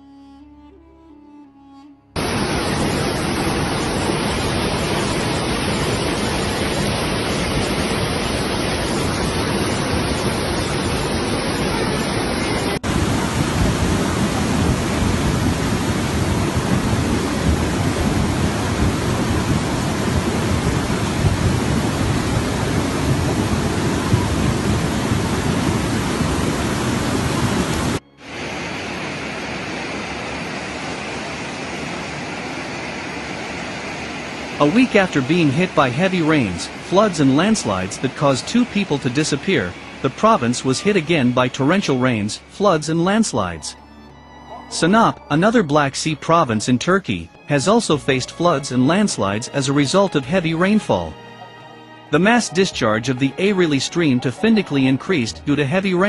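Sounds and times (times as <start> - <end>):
flood water rushing: 2.2 - 56.0.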